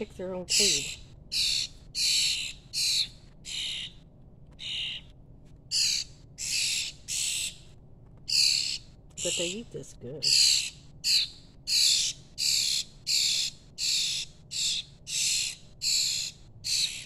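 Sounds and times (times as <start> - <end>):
fledglings raspy begging calls: 0.4 - 4.0, 4.6 - 5.1, 5.7 - 7.7, 8.3 - 17.0.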